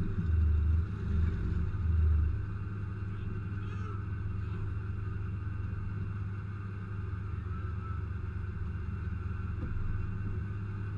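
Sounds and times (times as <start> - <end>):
truck engine idling: 0.0 - 10.9.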